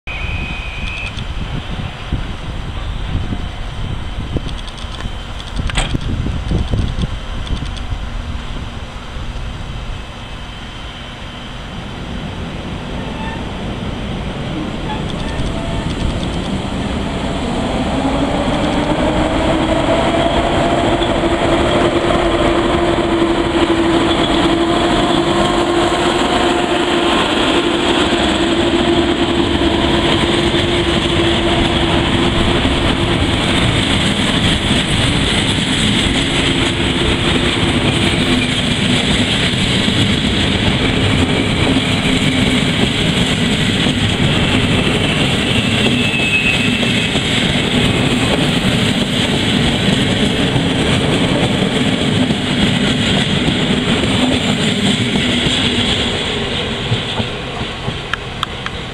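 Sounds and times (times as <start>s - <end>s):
locomotive humming tone: 0.1s - 58.9s
train wheels rumbling on rails: 0.1s - 58.9s.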